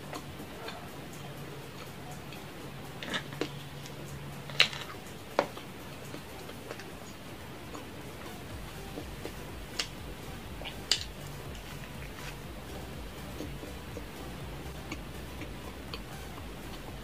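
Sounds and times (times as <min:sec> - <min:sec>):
faint steady hum: 0:00.0 - 0:17.0
person chewing pizza: 0:00.1 - 0:17.0.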